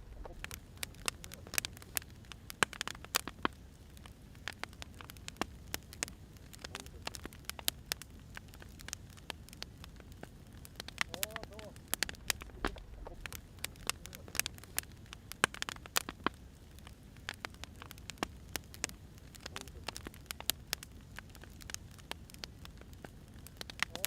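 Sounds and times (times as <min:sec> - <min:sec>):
firewood crackling and popping: 0:00.0 - 0:24.0
low fire rumble: 0:00.0 - 0:24.0.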